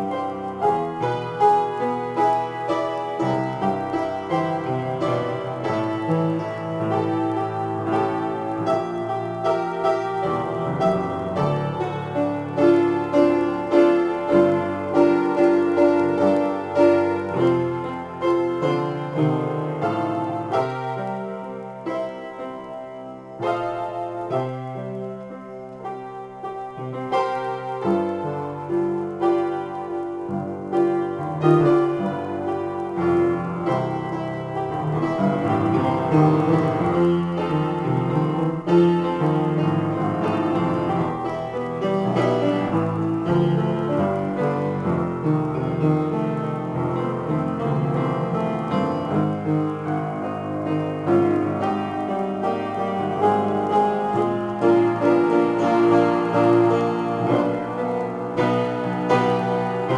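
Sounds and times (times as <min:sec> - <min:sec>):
piano improvisation: 0:00.0 - 0:59.9.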